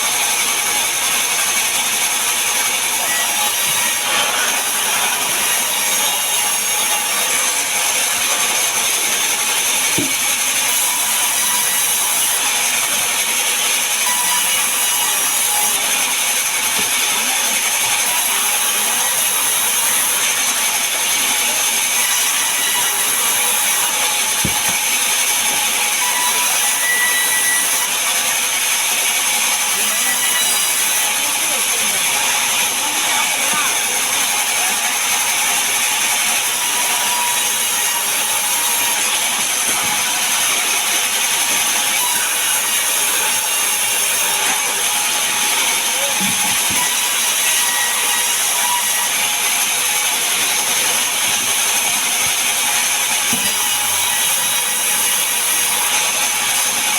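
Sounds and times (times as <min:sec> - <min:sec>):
power saw cutting timber: 0:00.0 - 0:56.9.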